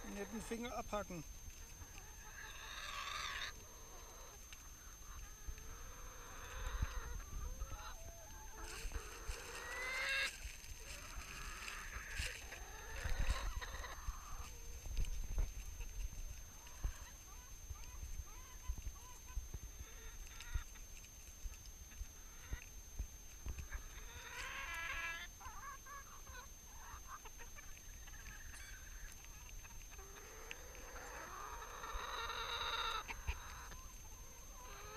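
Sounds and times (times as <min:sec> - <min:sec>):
hens clucking and squawking: 0:00.0 - 0:34.9.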